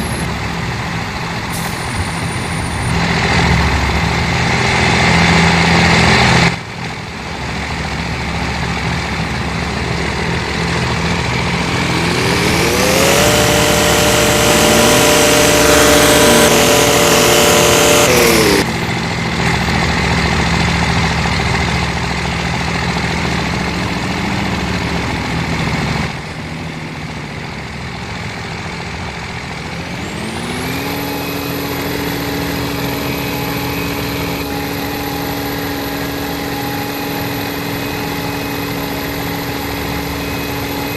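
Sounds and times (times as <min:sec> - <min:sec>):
truck engines revving: 0:00.0 - 0:40.9.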